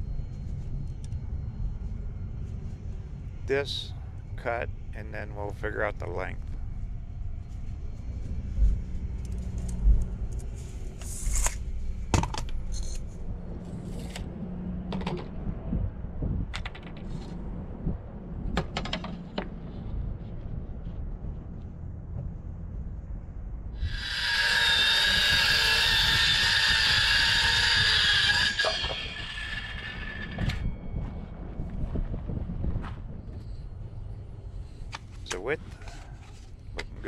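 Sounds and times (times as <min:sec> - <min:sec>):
low steady rumble: 0:00.0 - 0:24.2, 0:24.9 - 0:37.0.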